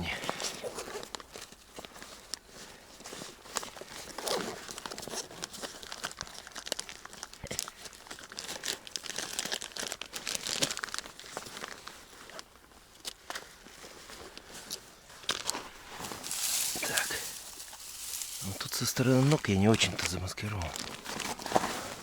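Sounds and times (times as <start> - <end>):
material crinkling and rustling: 0.2 - 22.0.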